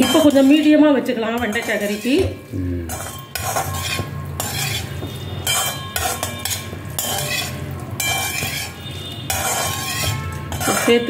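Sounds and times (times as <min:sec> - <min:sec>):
metal spatula scraping frying okra: 0:00.0 - 0:11.0.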